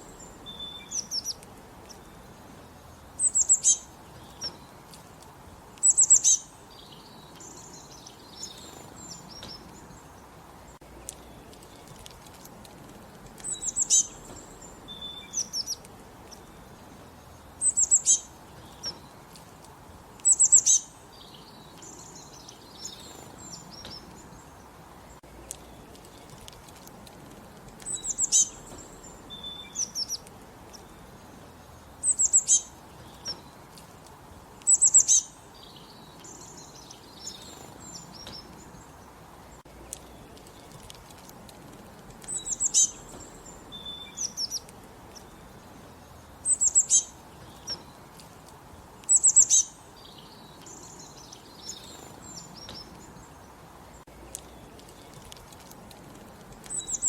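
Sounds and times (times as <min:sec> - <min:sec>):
low background hiss: 0:00.0 - 0:57.0
songbird chirping: 0:00.0 - 0:57.0.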